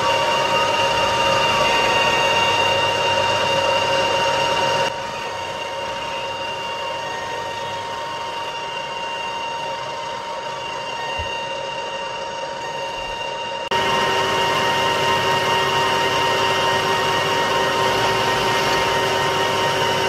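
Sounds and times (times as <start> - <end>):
lathe whining: 0.0 - 20.0
metal cutting noise: 0.0 - 20.0.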